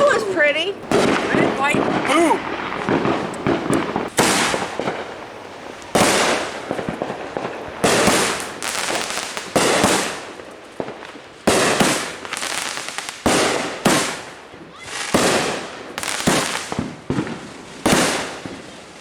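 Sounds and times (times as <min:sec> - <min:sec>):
fireworks bangs: 0:00.0 - 0:19.0
small firework pops: 0:00.0 - 0:19.0.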